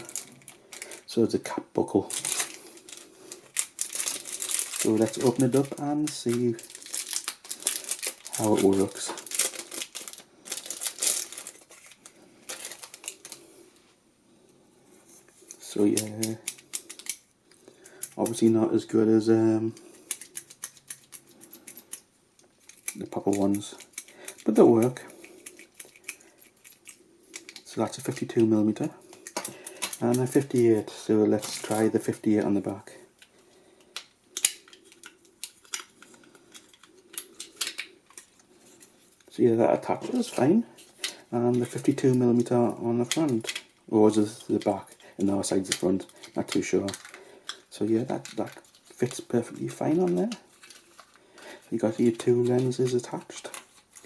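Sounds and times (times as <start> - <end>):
packaging rustling: 0.0 - 13.9, 15.0 - 18.7, 19.7 - 54.0.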